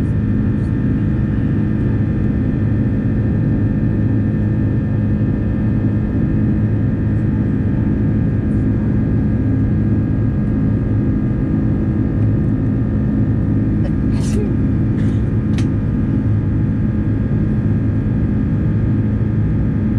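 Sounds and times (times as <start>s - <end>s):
jet engines droning: 0.0s - 19.9s.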